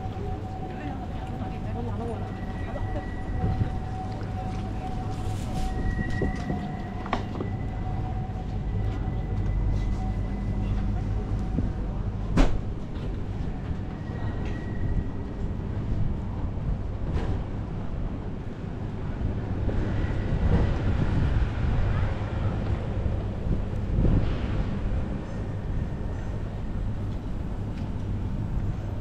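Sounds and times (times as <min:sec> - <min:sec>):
tram drive whine: 0:00.0 - 0:29.0
tram rumbling by: 0:00.0 - 0:29.0.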